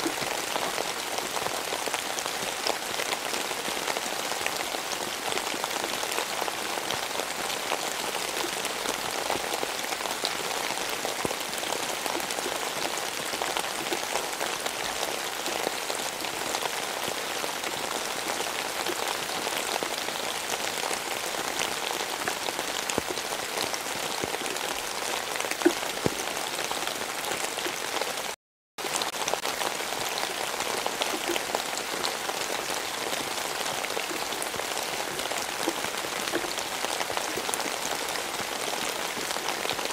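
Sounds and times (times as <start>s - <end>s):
steady rain with ticking drops: 0.0s - 39.9s.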